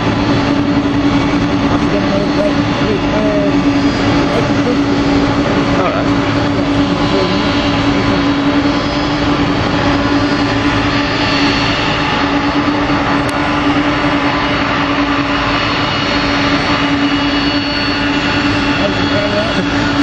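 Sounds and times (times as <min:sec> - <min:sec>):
constant low hum: 0:00.0 - 0:20.0
jet engines running: 0:00.0 - 0:20.0.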